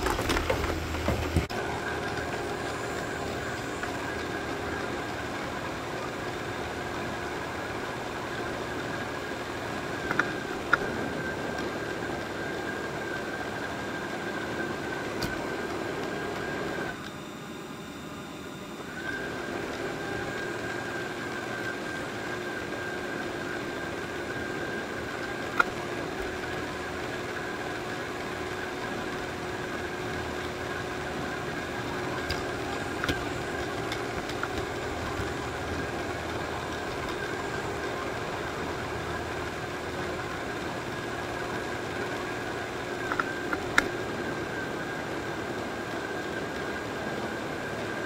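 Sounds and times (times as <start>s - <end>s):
robot vacuum whirring hum: 0.0s - 48.0s.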